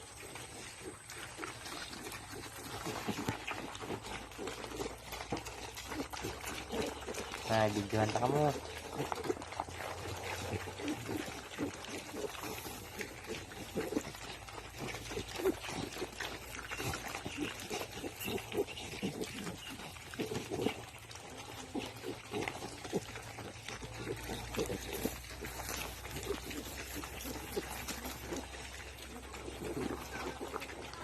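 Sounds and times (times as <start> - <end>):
pigs grunting: 0.0 - 31.0.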